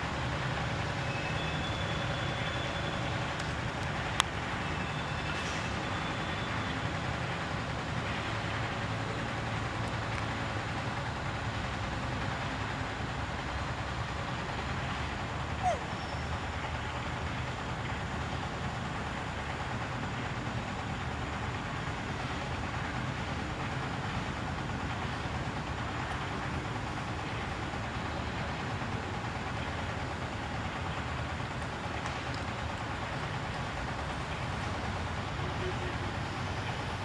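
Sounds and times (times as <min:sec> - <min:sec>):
outdoor background rumble and hiss: 0:00.0 - 0:37.0.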